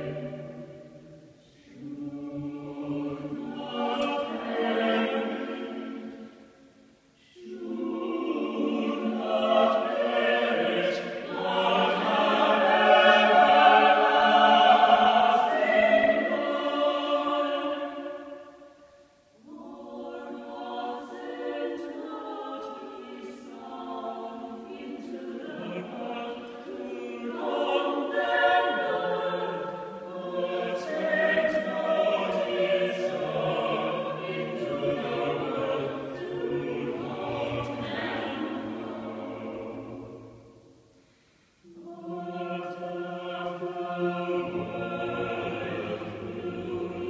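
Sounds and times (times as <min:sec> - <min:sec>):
choir singing in harmony: 0:00.0 - 0:47.0.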